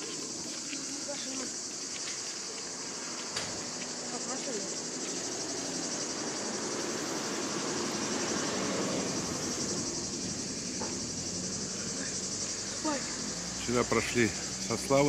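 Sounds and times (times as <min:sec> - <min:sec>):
insects shrilling: 0:00.0 - 0:15.0.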